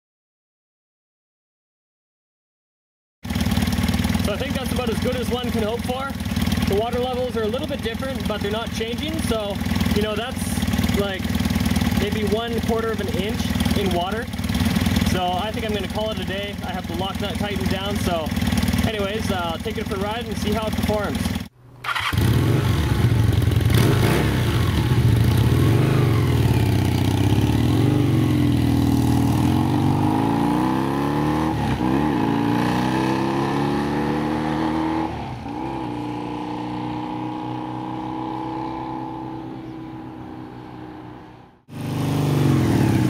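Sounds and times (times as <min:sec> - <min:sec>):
motorcycle engine riding off: 0:03.2 - 0:43.0
nearer loud engine: 0:03.2 - 0:43.0.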